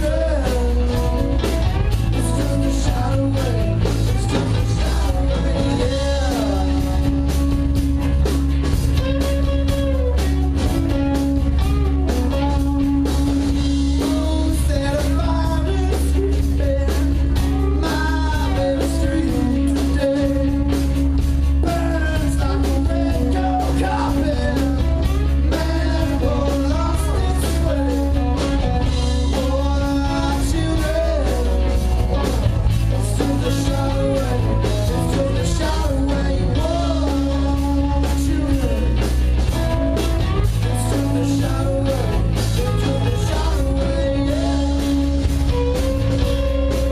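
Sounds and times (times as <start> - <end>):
lead singer vocals: 0.0 - 8.2, 12.1 - 46.9
bass line: 0.0 - 46.9
drums beating: 0.0 - 46.9
electric guitar: 0.0 - 46.9.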